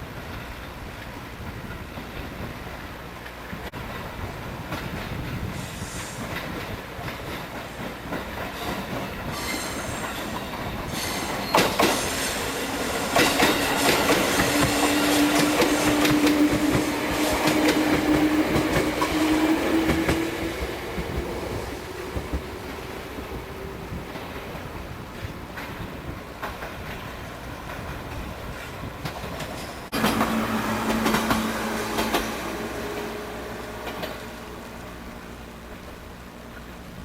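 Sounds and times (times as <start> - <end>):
train wheels clicking over rail joints: 0.1 - 37.0
low train motor whine: 1.1 - 37.0.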